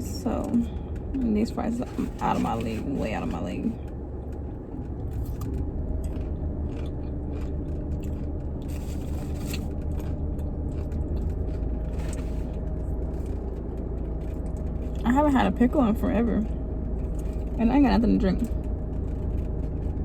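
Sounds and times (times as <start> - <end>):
car engine and air conditioning hum: 0.0 - 20.0.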